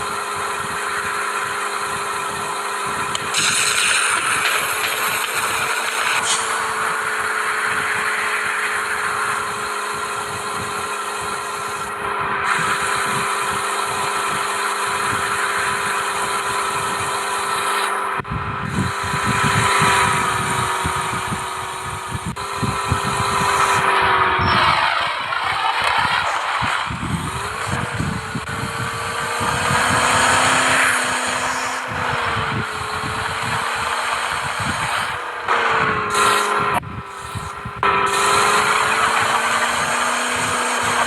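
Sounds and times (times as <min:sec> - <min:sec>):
car engine droning: 0:00.0 - 0:41.0.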